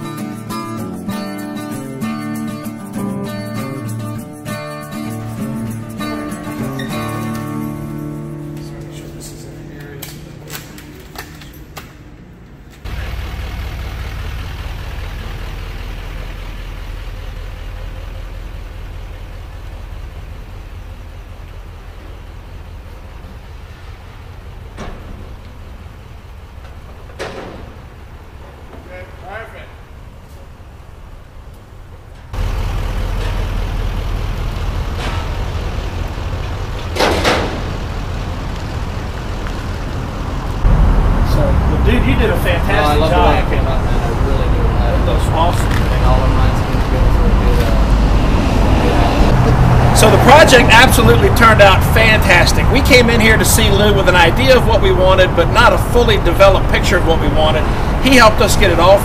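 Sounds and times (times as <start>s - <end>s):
pickup truck engine rumble: 0.0s - 59.0s.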